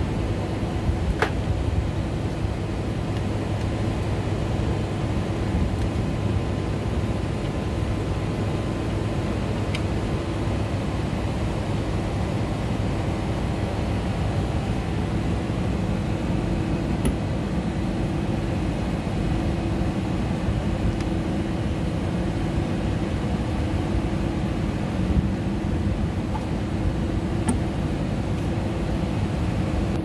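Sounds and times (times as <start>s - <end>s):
machinery droning: 0.0s - 30.0s.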